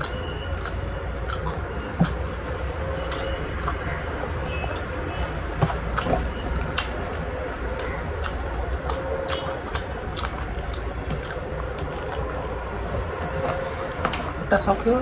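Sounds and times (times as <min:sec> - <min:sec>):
mouth smacks: 0:00.0 - 0:14.4
chewing crunchy bones: 0:00.0 - 0:14.5
steady low hum: 0:00.0 - 0:15.0.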